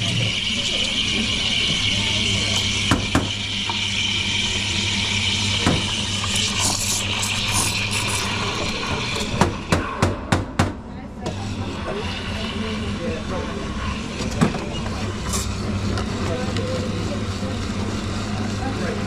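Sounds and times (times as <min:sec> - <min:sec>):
espresso machine hissing: 0:00.0 - 0:09.8, 0:11.3 - 0:19.0.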